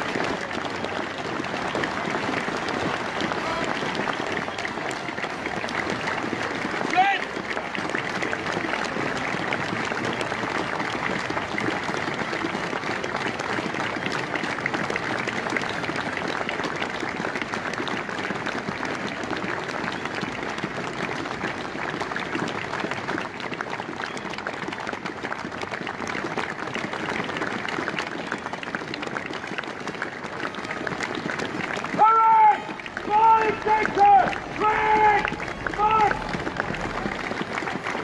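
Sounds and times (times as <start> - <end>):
crowd applauding: 0.0 - 38.0.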